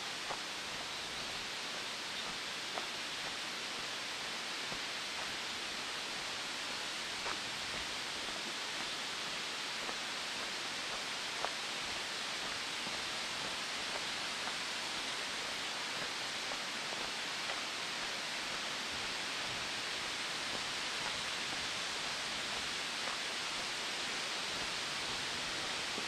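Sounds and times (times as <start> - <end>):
outdoor rushing hiss: 0.0 - 26.0.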